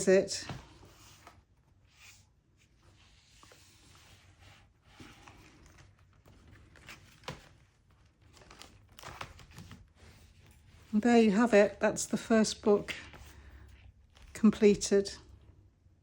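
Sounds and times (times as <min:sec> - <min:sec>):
paper pages rustling: 0:00.7 - 0:15.0.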